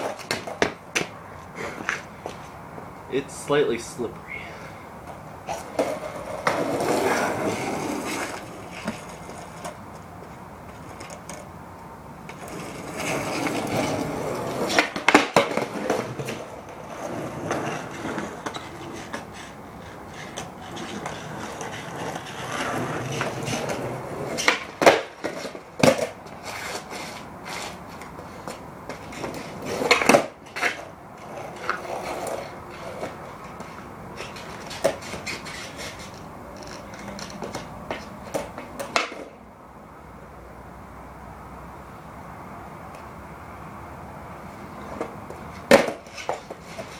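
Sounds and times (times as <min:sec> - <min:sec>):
skateboard clacking on ground: 0:00.0 - 0:04.3, 0:05.0 - 0:39.5, 0:44.5 - 0:46.9
skateboard wheels rolling: 0:00.0 - 0:46.9.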